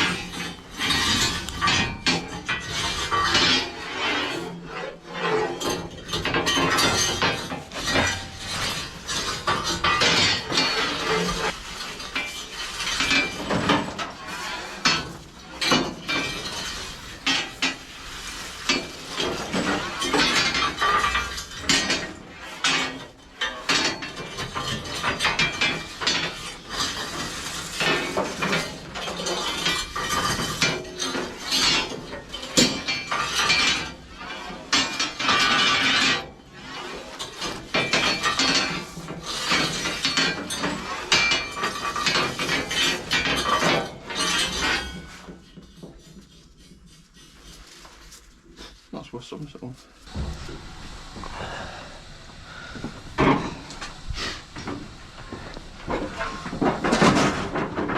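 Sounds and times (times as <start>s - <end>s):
metal clanking and scraping: 0.0s - 49.0s, 49.7s - 57.9s.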